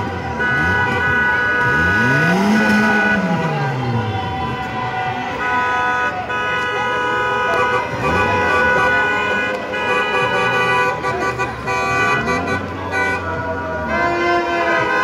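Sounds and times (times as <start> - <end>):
car horns honking: 0.0 - 15.0
voices shouting: 0.0 - 15.0.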